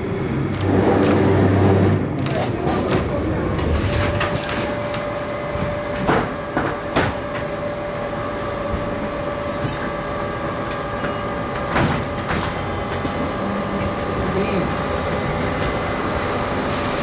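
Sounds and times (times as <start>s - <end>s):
sharp clacks of tram wheels: 0.0s - 7.6s, 10.6s - 17.0s
tram whining on rails: 0.0s - 17.0s.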